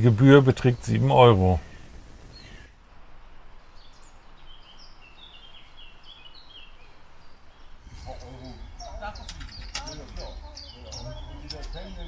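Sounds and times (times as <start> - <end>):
faint outdoor background noise: 0.0 - 12.0
songbird chirping: 0.0 - 12.0.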